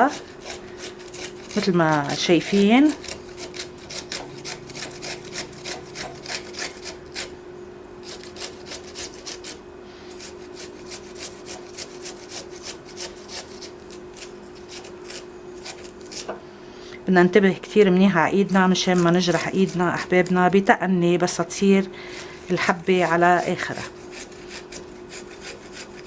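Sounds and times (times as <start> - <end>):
ginger rasping on grater: 0.0 - 7.4, 8.0 - 16.4, 18.2 - 20.7, 21.7 - 26.0.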